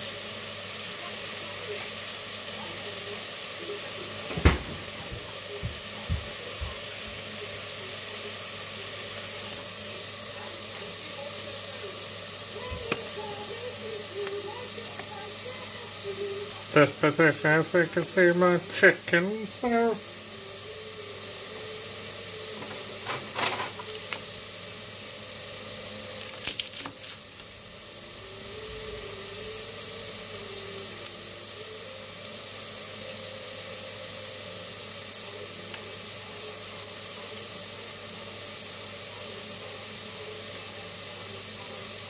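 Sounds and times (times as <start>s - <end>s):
chicken sizzling in pan: 0.0s - 42.0s.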